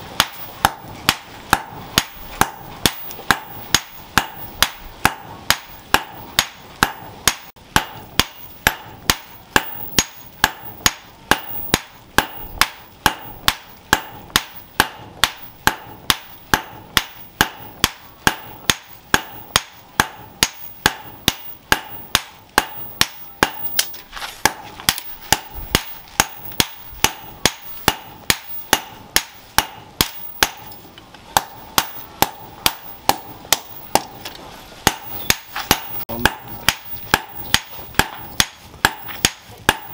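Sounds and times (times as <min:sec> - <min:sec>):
hammer striking metal anvil: 0:00.0 - 0:39.9.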